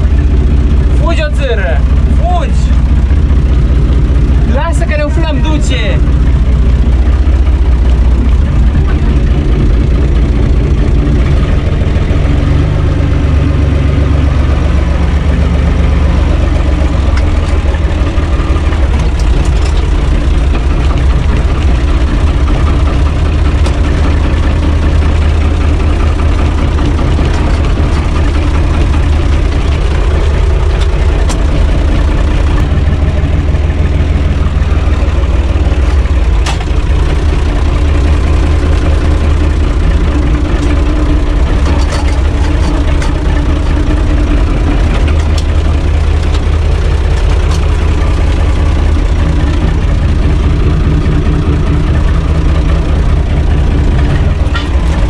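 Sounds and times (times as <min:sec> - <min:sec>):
diesel tractor engine idling: 0:00.0 - 0:55.0.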